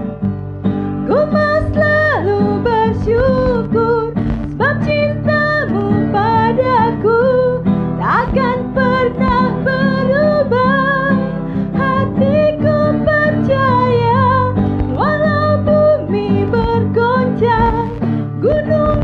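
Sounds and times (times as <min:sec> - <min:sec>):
acoustic guitar: 0:00.0 - 0:19.0
woman singing: 0:01.0 - 0:19.0.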